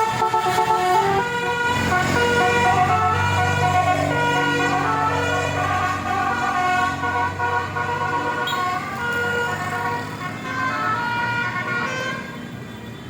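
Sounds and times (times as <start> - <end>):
multi-tone vehicle horn tune: 0.0 - 13.0.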